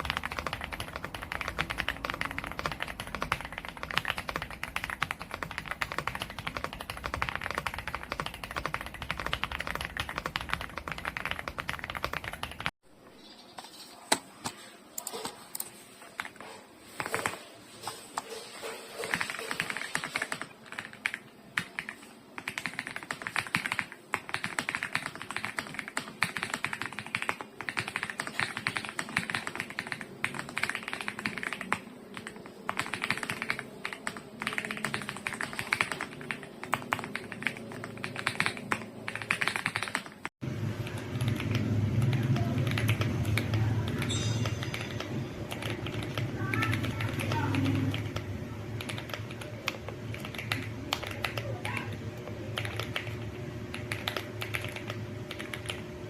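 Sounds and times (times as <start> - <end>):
mechanical keyboard typing: 0.0 - 12.7, 15.0 - 17.5, 19.0 - 55.9.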